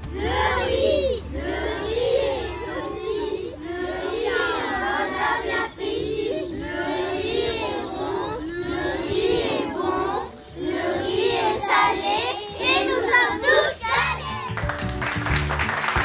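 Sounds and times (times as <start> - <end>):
children singing in unison: 0.0 - 14.6.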